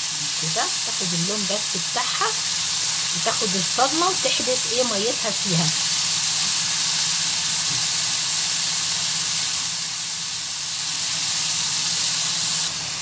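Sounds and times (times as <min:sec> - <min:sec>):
liver sizzling in hot oil: 0:00.0 - 0:13.0.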